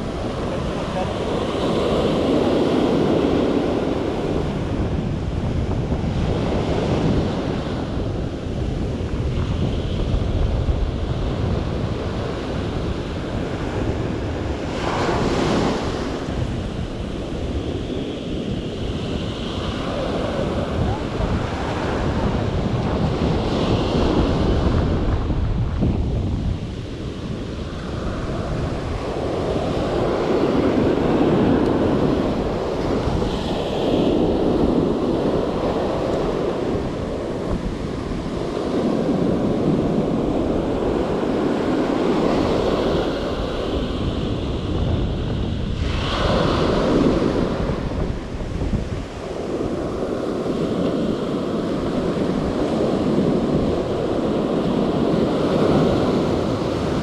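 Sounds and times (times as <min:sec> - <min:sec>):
ocean surf breaking: 0:00.0 - 0:57.0
wind rumbling on microphone: 0:00.0 - 0:57.0.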